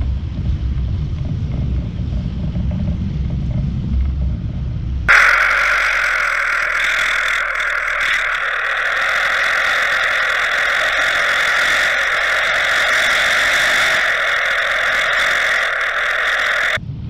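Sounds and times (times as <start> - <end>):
outboard motor heard underwater: 0.0 - 16.8.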